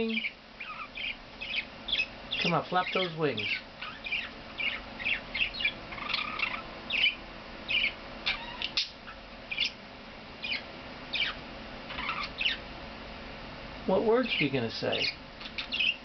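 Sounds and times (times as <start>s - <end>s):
budgerigar warbling and chirping: 0.0s - 9.8s, 10.4s - 12.6s, 14.2s - 16.0s.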